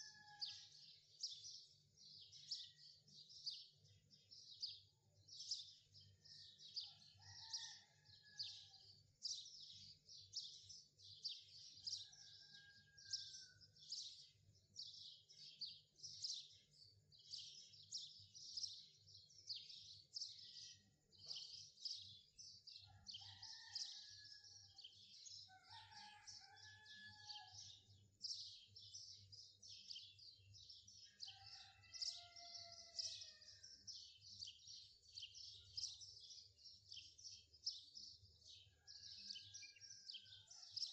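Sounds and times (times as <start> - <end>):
faint birdsong: 0.0 - 40.9.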